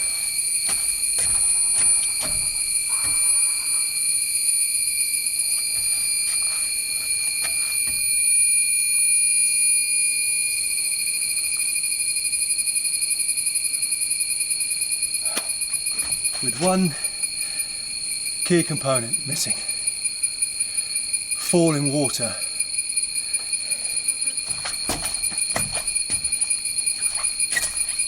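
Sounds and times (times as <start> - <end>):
cicadas droning: 0.0 - 28.0.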